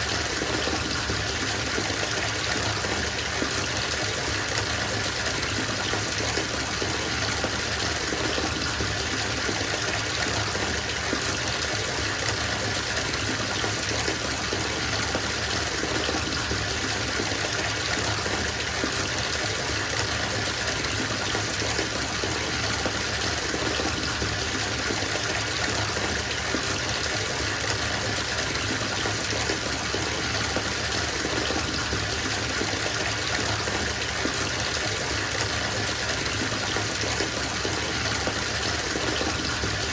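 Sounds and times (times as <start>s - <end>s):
water gushing into bathtub: 0.0s - 39.9s.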